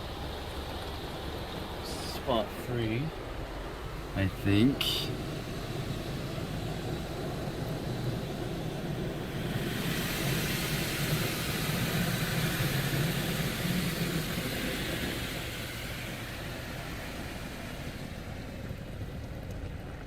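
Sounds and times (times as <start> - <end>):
car wash water spraying: 0.0 - 19.5.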